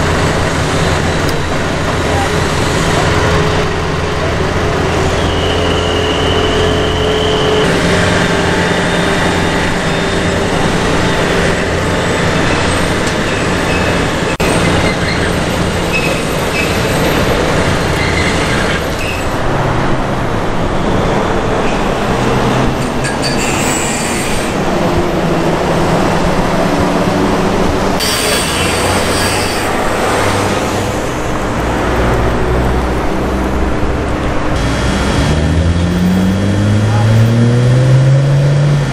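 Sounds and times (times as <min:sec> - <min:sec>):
bus engine running: 0:00.0 - 0:38.9
vehicles passing: 0:00.0 - 0:38.9.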